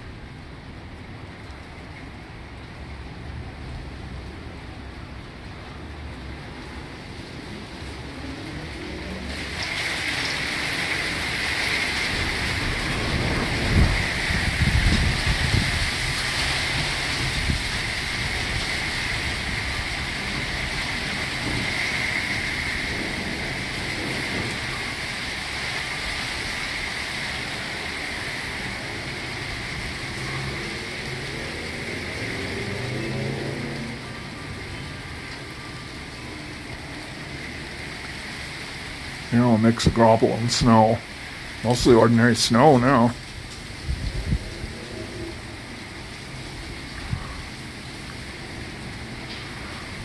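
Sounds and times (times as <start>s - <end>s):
graupel and rain hissing: 0.0s - 50.0s
thunder rumbling: 7.4s - 50.0s.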